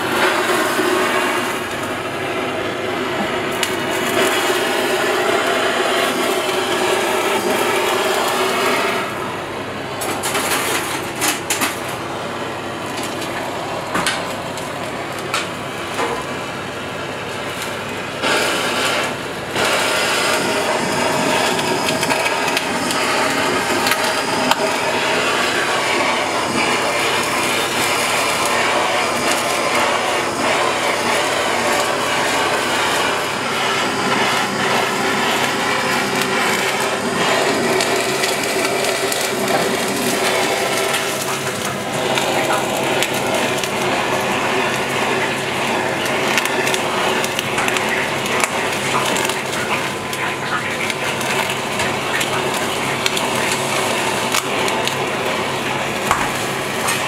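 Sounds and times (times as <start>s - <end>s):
blowtorch flame hissing: 0.0s - 10.4s, 11.4s - 57.0s.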